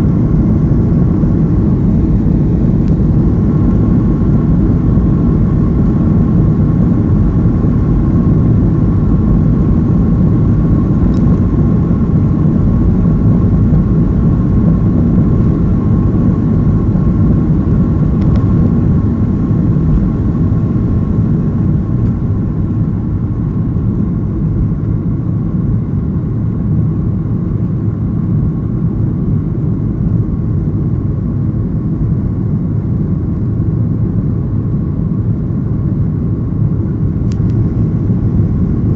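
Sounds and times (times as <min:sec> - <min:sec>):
faint steady whine: 0:00.0 - 0:38.9
jet engines rumbling: 0:00.0 - 0:38.9.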